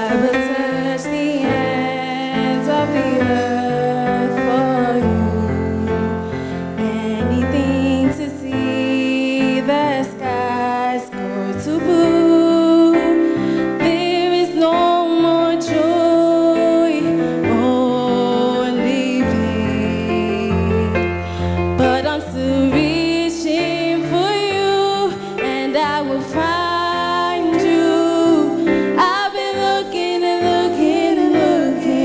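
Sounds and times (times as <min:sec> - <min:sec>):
person singing: 0:00.0 - 0:32.0
piano: 0:00.0 - 0:32.0.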